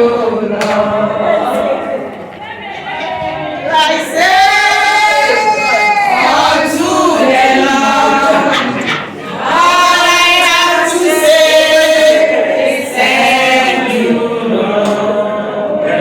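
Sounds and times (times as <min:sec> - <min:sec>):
group singing in chorus: 0:00.0 - 0:16.0.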